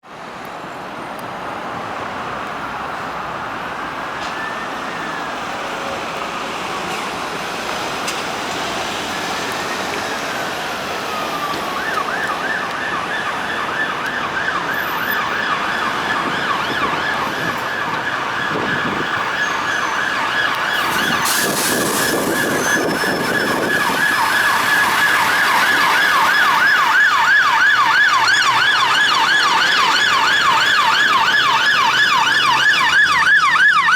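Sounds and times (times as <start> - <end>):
ambulance siren wailing and yelping: 4.2 - 33.9.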